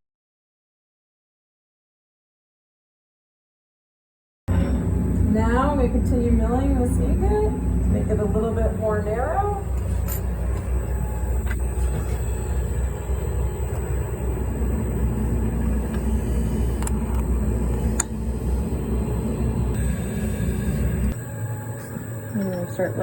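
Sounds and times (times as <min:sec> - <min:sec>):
rolling mill low rumble: 0:04.5 - 0:23.0.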